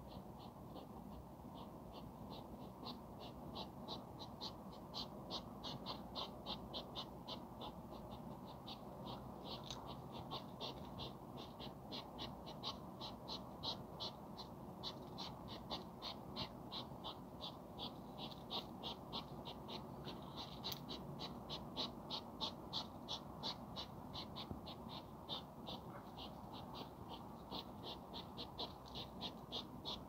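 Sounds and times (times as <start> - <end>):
hedgehog snorting: 1.6 - 30.0.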